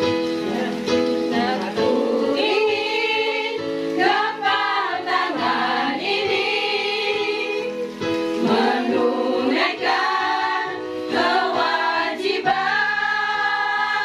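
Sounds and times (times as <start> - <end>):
women's choir singing: 0.5 - 14.0.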